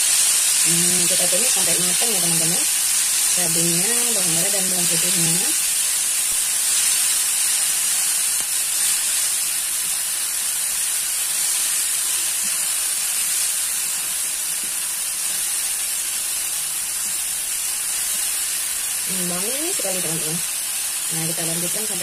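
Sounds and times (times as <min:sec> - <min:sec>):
paste sizzling in hot oil: 0:00.0 - 0:22.0.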